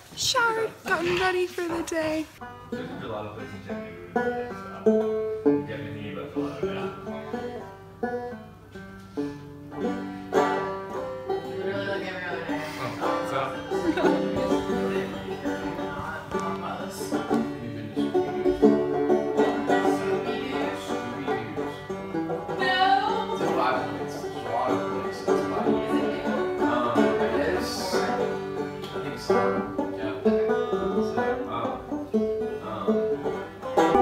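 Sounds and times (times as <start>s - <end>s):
banjo playing: 2.4s - 34.0s.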